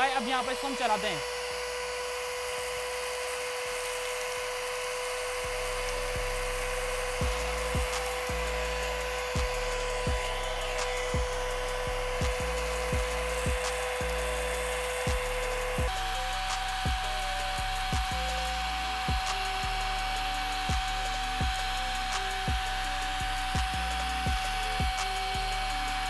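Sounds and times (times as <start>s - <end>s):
handheld vacuum cleaner whine: 0.0s - 26.0s.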